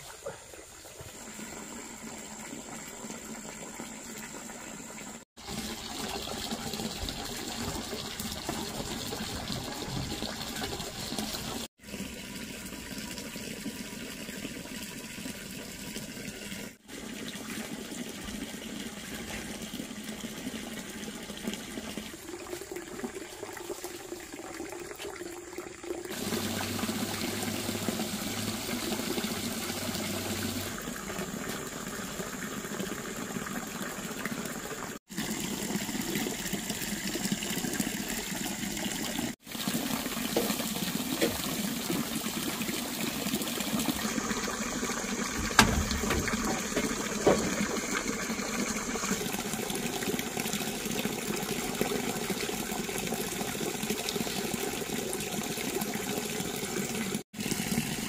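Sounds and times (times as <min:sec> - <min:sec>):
water pouring into pond: 0:00.0 - 0:58.0.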